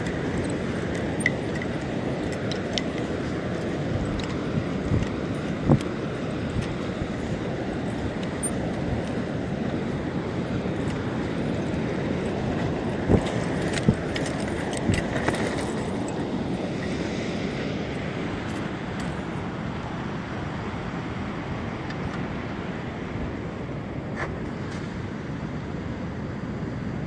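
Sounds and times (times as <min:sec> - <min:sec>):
sea: 0:00.0 - 0:27.0
wind: 0:00.0 - 0:27.0.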